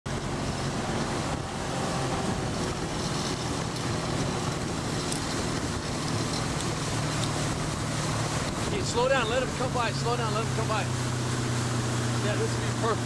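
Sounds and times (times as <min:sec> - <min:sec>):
motorboat engine humming: 0:00.0 - 0:13.0
water wash: 0:00.1 - 0:13.0
wind noise: 0:00.1 - 0:13.0.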